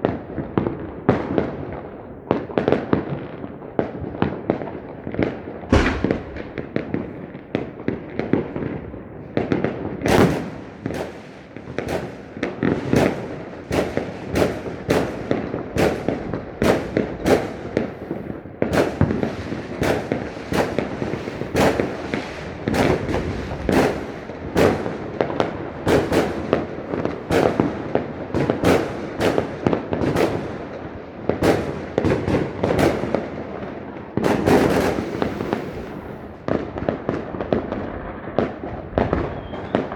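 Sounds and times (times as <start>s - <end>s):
fireworks bursting: 4.4s - 39.9s.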